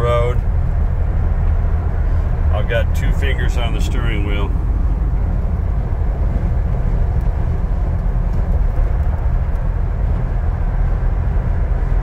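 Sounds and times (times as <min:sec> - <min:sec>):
car engine drone: 0:00.0 - 0:12.0
road and tyre noise: 0:00.0 - 0:12.0.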